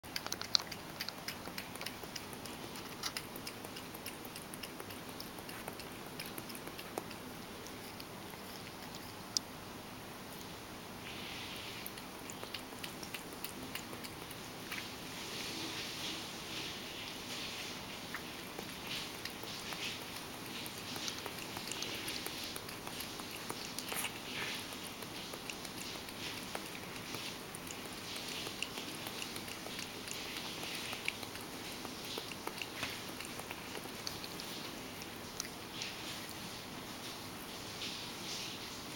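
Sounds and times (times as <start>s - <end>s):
cat lapping milk: 0.0s - 9.6s, 10.4s - 38.0s.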